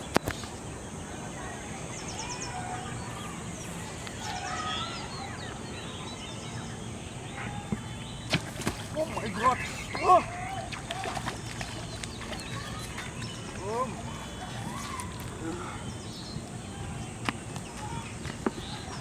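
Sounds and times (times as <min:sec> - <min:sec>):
birds chirping and calling: 0:00.0 - 0:19.0
outdoor background hiss: 0:00.0 - 0:19.0.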